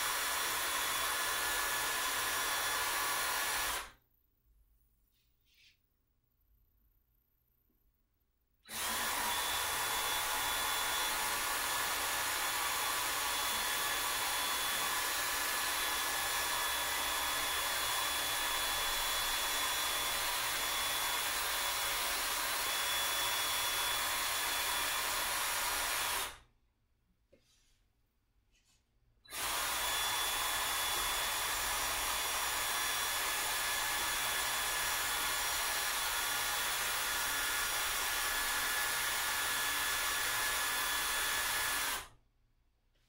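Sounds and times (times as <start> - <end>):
power drill running: 0.0 - 4.0, 8.7 - 26.4, 29.3 - 42.2.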